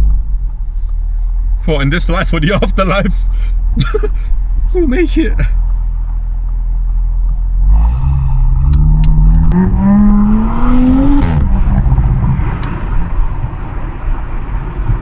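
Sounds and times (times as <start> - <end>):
car engine accelerating: 0.0 - 15.0
exhaust cracks: 0.0 - 15.0.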